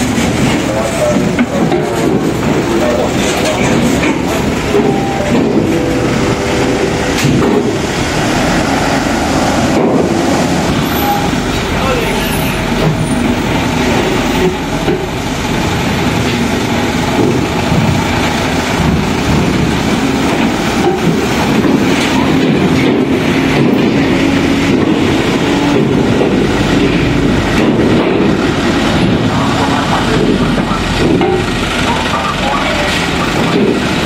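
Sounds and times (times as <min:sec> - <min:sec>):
truck engines rumbling: 0:00.0 - 0:34.0.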